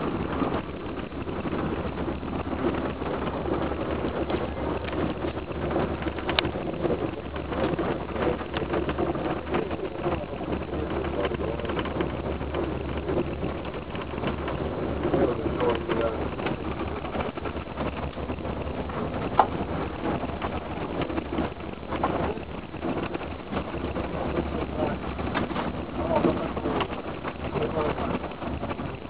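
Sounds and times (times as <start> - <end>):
road noise: 0.0 - 29.0
vehicle engine hum: 0.0 - 29.0.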